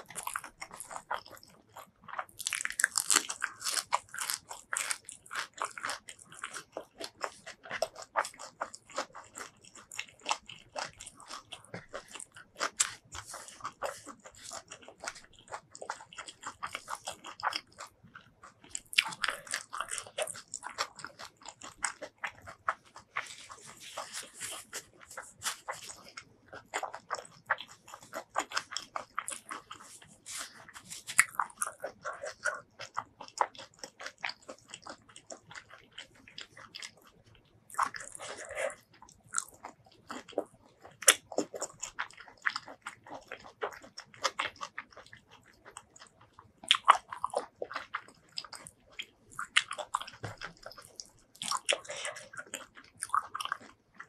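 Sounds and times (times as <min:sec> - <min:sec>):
person chewing and biting: 0:00.0 - 0:54.0.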